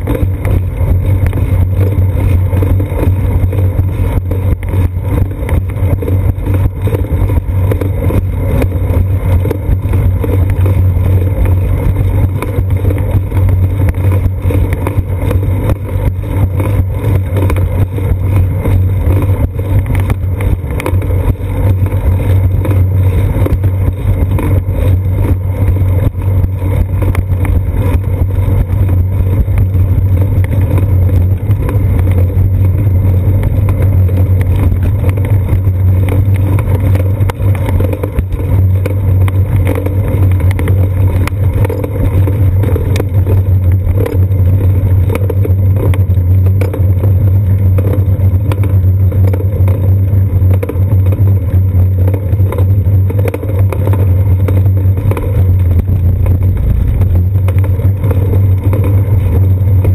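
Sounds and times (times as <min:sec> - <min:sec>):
wind and road rumble: 0:00.0 - 0:59.9.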